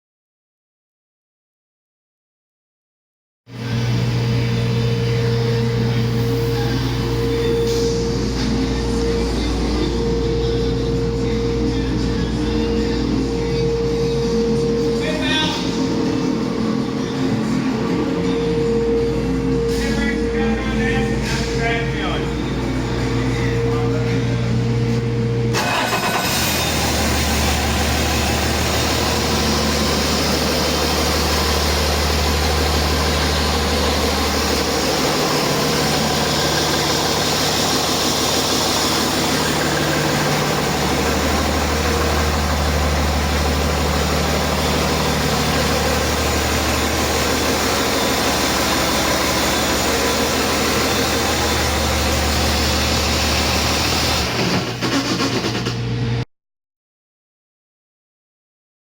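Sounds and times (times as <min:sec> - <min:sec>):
diesel engine running: 0:03.5 - 0:56.2.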